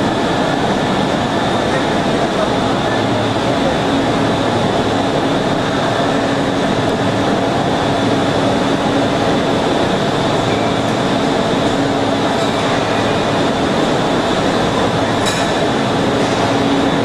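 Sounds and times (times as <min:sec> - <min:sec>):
lathe machine drone: 0:00.0 - 0:17.0.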